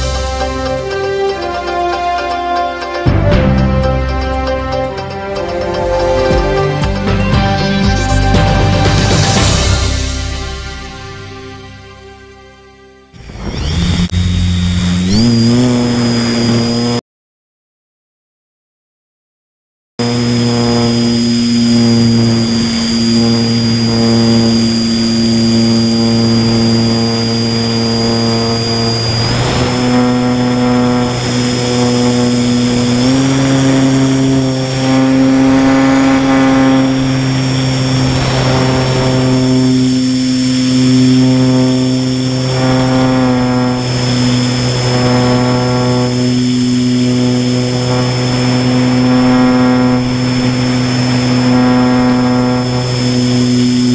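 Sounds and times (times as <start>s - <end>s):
model plane motor droning: 0.0s - 7.2s, 13.2s - 17.0s, 20.0s - 53.9s.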